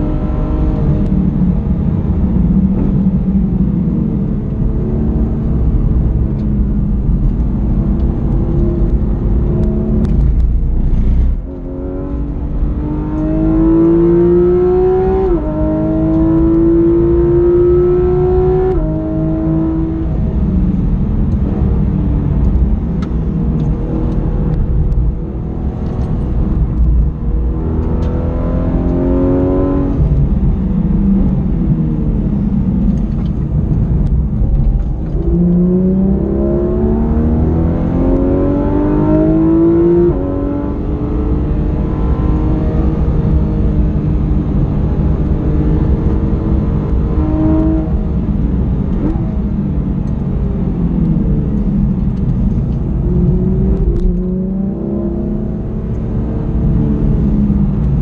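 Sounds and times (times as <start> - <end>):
car engine revving: 0.0 - 58.0
low road rumble: 0.0 - 58.0.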